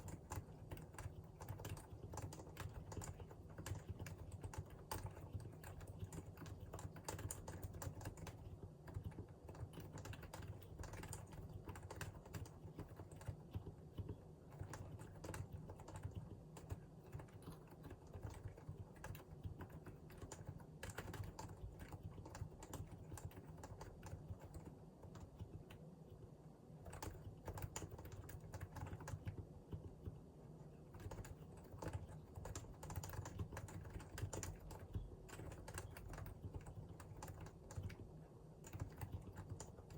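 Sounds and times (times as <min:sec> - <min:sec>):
fast keyboard typing: 0:00.0 - 0:25.8, 0:26.8 - 0:30.2, 0:30.9 - 0:39.9.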